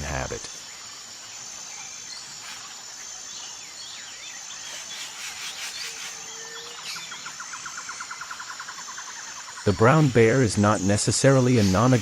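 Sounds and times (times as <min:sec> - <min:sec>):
birds chirping: 0:00.0 - 0:12.0
high insect trill: 0:00.0 - 0:12.0.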